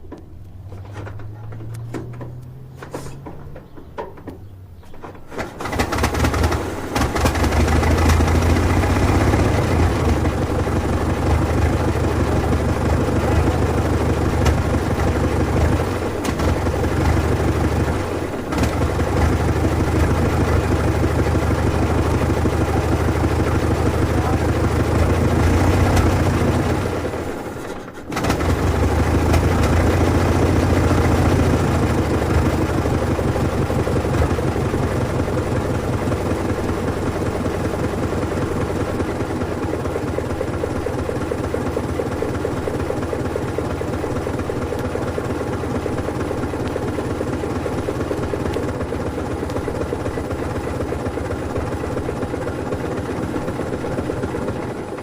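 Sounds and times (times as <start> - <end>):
engine running with rapid firing: 5.0 - 55.0.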